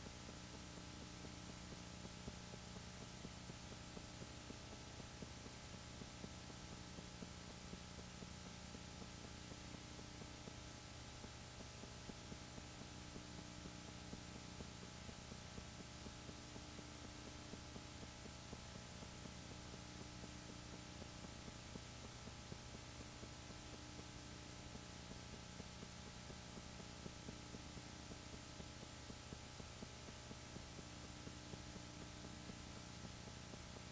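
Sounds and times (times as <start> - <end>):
faint low hum: 0.0 - 33.9.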